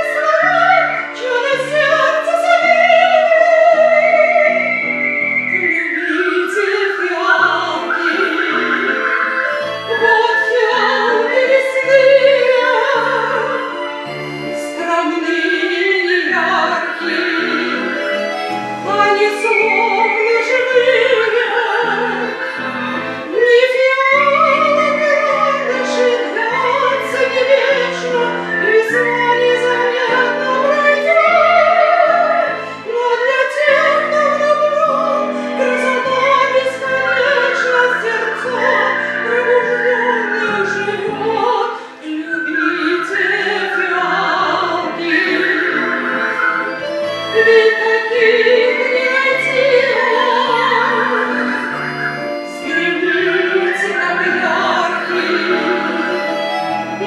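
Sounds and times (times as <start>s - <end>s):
person singing with vibrato: 0.0s - 57.0s
piano accompaniment: 0.0s - 57.0s.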